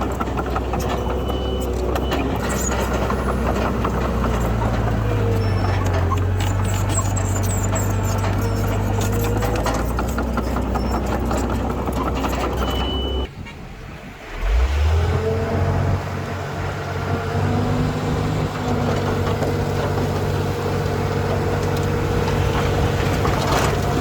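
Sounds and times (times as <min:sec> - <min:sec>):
heavy diesel engine revving: 0:00.0 - 0:13.3, 0:14.3 - 0:24.0.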